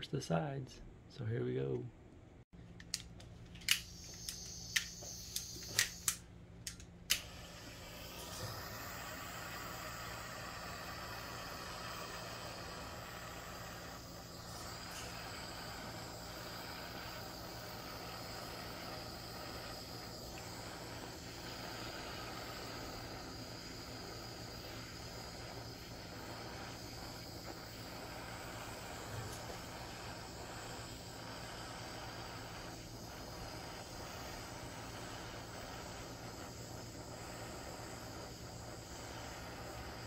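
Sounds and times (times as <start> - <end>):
blowtorch flame hissing: 3.6 - 40.0.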